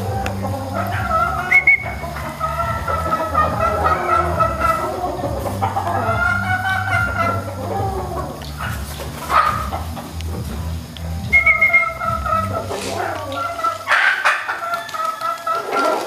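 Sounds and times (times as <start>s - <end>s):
roosters clucking: 0.0s - 16.0s
roosters crowing: 0.0s - 16.0s.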